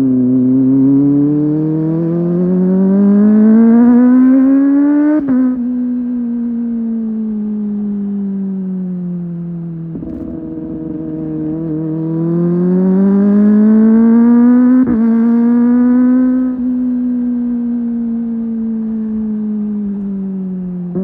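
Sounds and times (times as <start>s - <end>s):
motorcycle engine revving: 0.0s - 6.5s, 9.9s - 21.0s.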